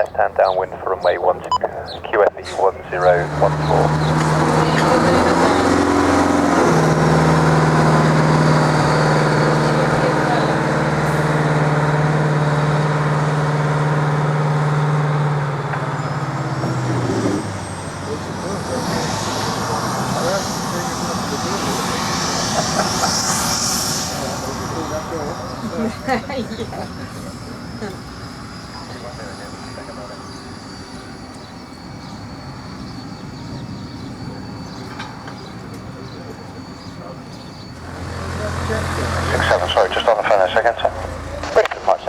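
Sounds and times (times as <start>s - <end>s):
engine low drone: 0.0s - 42.0s.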